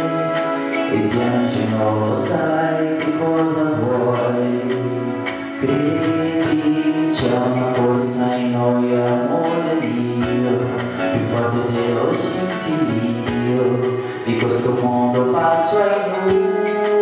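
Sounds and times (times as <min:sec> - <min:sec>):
karaoke backing track: 0:00.0 - 0:17.0
man singing into a microphone: 0:00.0 - 0:17.0.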